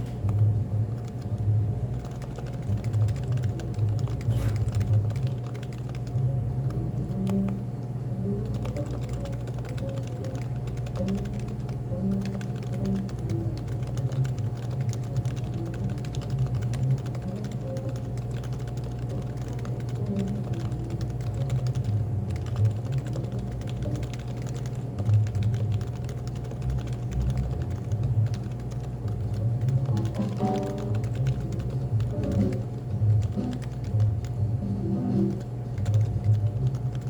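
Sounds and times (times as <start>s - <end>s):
fast keyboard typing: 0.0s - 37.0s
soft background music: 6.0s - 37.0s.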